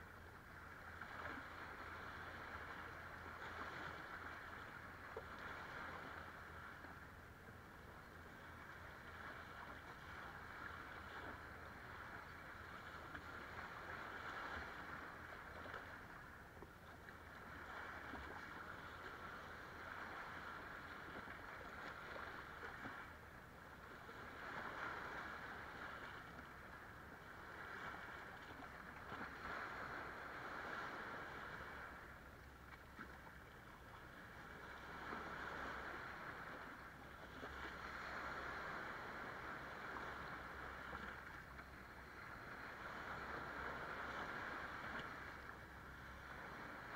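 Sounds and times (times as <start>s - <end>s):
low steady rumble: 0.0s - 46.9s
small waves washing over sand: 0.0s - 46.9s.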